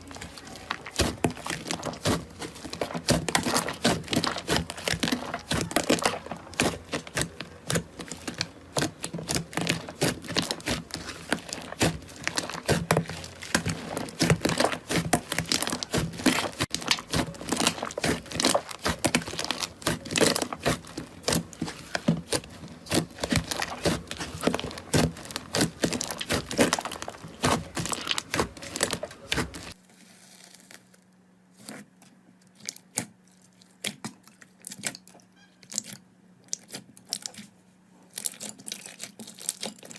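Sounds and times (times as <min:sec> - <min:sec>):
slime crackling and popping: 0:00.0 - 0:31.0, 0:38.1 - 0:39.9.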